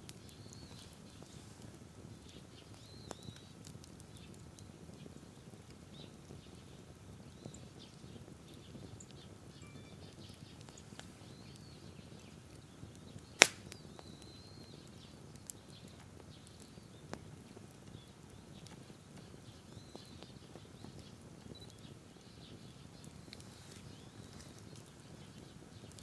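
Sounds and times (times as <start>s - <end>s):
campfire crackling: 0.0s - 26.0s
faint birdsong: 0.0s - 26.0s
fire popping: 0.0s - 26.0s.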